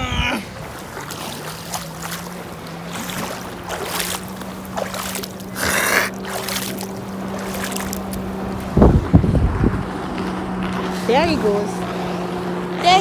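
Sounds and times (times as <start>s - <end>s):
water sloshing: 0.0s - 13.0s
watercraft engine droning: 0.0s - 13.0s.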